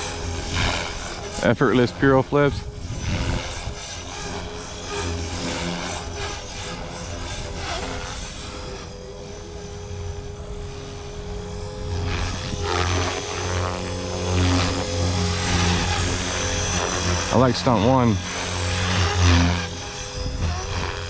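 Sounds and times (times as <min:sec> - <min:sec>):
rc helicopter motor and rotor whine: 0:00.0 - 0:21.0.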